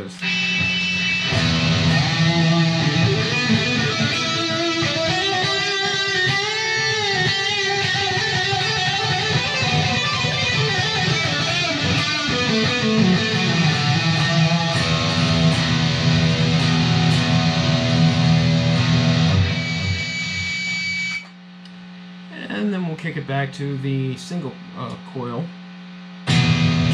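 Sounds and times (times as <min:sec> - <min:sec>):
electric guitar lead playing: 0:00.0 - 0:21.2, 0:26.3 - 0:26.9.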